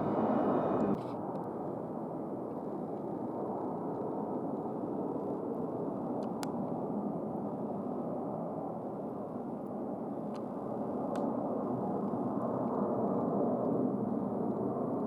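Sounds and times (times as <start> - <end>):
jet airliner engine rush: 0.0 - 15.0.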